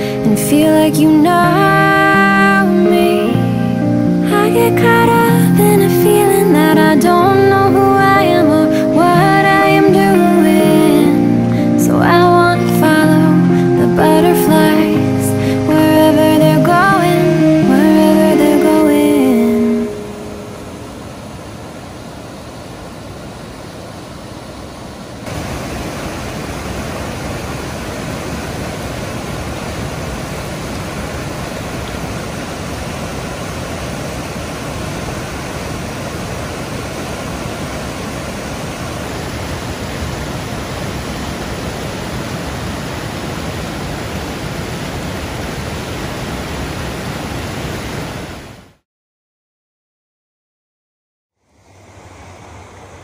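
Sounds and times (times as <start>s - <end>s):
river rushing over cascades: 0.0s - 48.8s, 51.5s - 53.0s.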